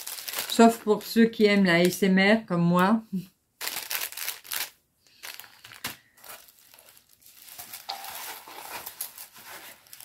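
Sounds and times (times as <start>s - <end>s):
plastic bags crinkling: 0.0s - 2.0s, 3.6s - 10.0s.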